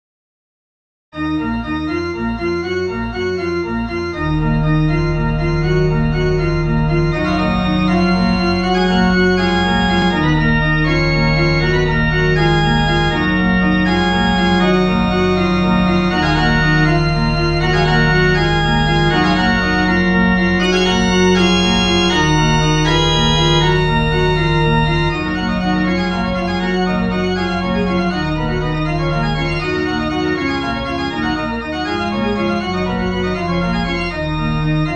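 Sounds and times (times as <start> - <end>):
organ playing fast piece: 1.2 - 34.9.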